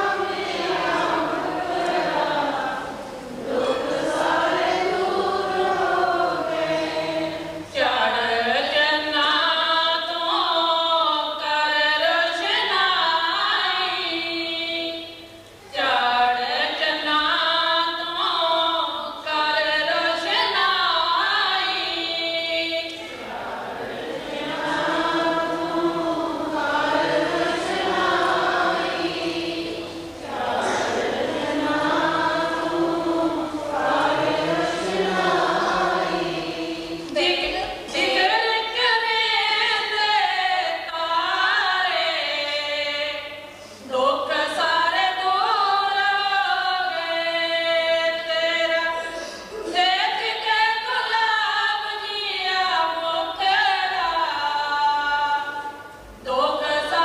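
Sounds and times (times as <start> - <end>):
group singing a chant: 0.0 - 10.2, 19.4 - 57.0.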